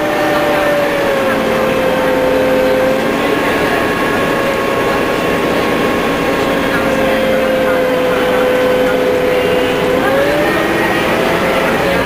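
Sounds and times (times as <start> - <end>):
bus engine whine: 0.0 - 12.0.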